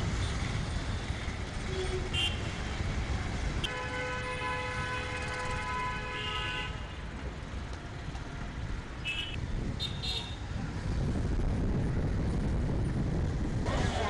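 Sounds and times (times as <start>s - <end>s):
passing traffic rumble: 0.0s - 14.0s.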